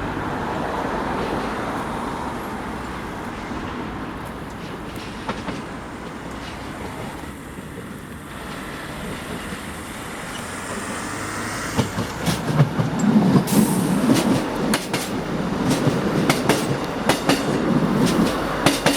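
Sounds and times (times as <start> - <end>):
train rumbling: 0.0 - 18.9
wheels clicking over rail joints: 0.1 - 18.9.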